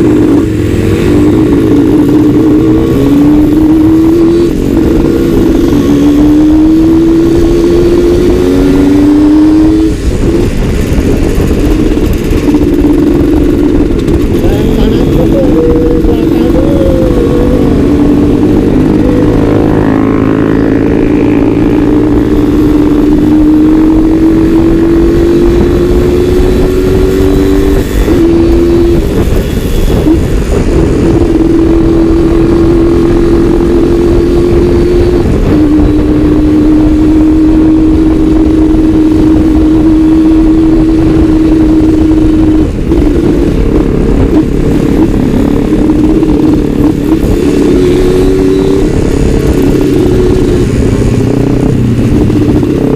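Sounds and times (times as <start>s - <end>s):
two-stroke motorcycle accelerating: 0.0s - 52.9s.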